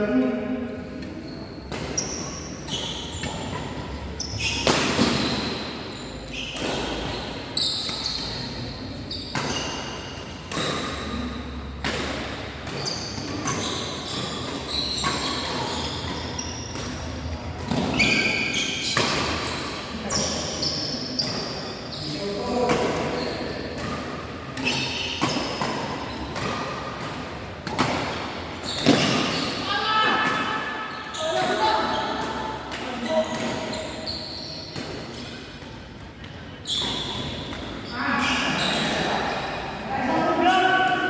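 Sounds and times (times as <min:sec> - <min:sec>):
shoes squeaking on court floor: 0:00.6 - 0:41.0.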